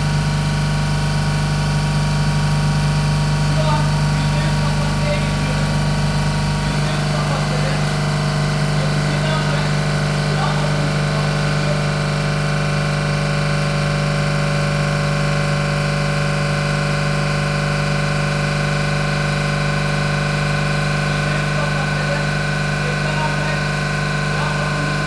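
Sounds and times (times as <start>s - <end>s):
compressor humming: 0.0s - 25.0s.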